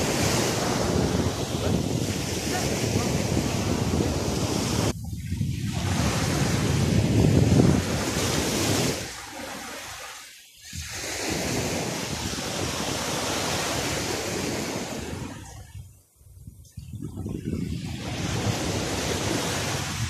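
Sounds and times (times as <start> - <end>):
small waves breaking on shore: 0.0 - 15.8, 17.2 - 20.0
wind on microphone: 0.0 - 20.0.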